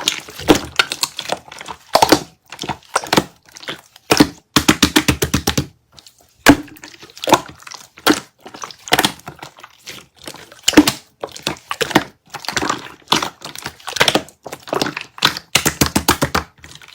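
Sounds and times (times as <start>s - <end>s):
frozen jelly crunching: 0.0s - 16.9s.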